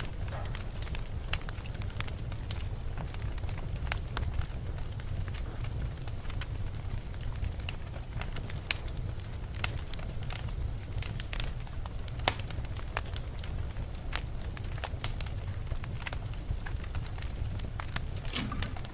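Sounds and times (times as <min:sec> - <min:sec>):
wood fire crackling and popping: 0:00.0 - 0:18.9.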